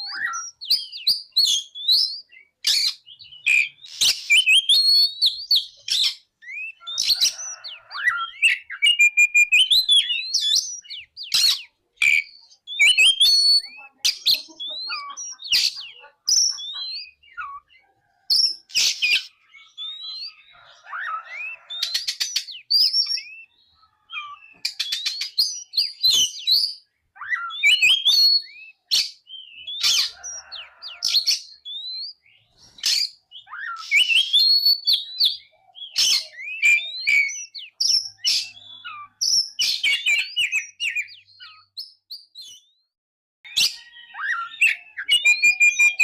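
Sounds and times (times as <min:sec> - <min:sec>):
bird singing whistled song: 0:00.0 - 0:42.9, 0:43.5 - 0:46.0.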